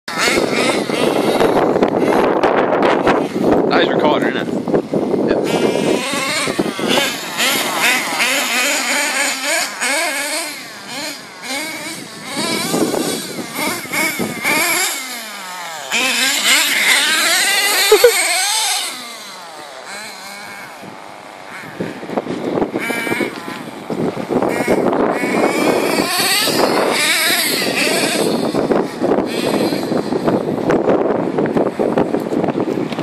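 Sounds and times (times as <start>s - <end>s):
small nitro engine revving: 0.1s - 33.0s.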